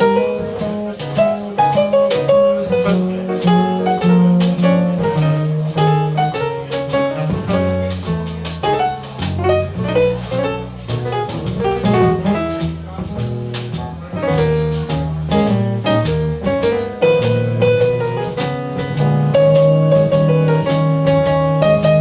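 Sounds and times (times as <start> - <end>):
jazz music over loudspeakers: 0.0 - 22.0.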